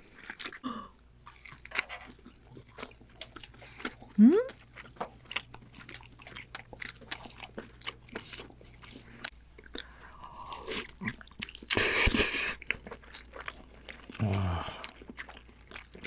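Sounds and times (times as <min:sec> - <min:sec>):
chewing crispy food: 0:00.0 - 0:16.0.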